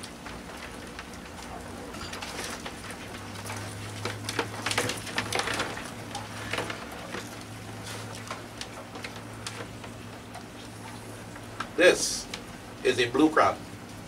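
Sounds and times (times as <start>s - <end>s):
crabs clicking and scraping on plastic: 0.0s - 14.0s.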